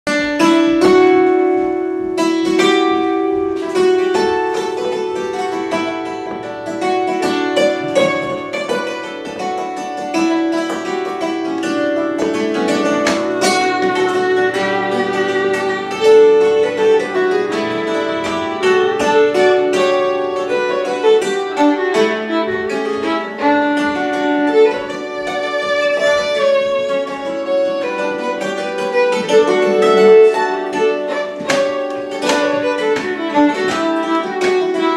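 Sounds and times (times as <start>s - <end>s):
fiddle bowed melody: 0.1s - 34.9s
hammered dulcimer notes: 0.1s - 34.9s.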